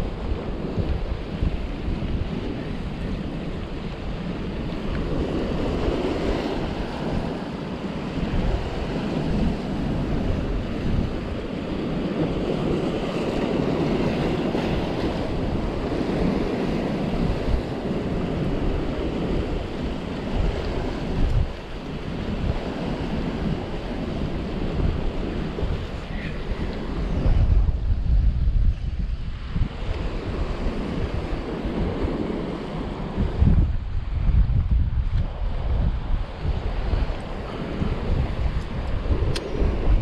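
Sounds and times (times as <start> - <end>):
waves breaking against rocks: 0.0 - 40.0
wind buffeting microphone: 0.0 - 40.0.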